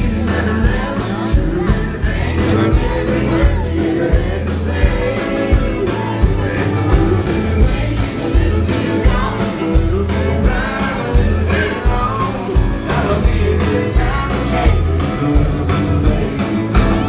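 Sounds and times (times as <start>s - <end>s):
bass: 0.0s - 17.0s
person singing: 0.0s - 17.0s
strummed acoustic guitars: 0.0s - 17.0s.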